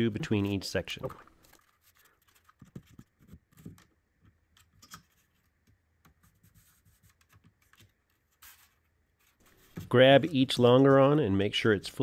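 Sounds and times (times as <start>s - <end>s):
plastic parts clicking and rubbing: 0.1s - 10.4s.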